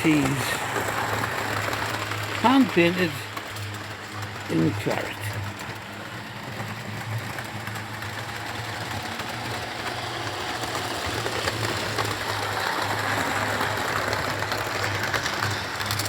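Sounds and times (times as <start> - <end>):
wheels rattling on rails: 0.0 - 16.0.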